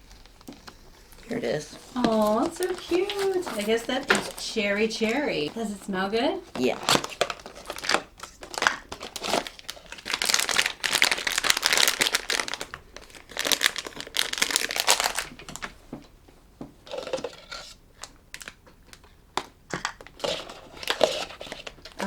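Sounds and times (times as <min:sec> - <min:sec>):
plastic packaging tearing and crinkling: 0:01.1 - 0:05.3, 0:06.5 - 0:15.7, 0:16.9 - 0:22.0.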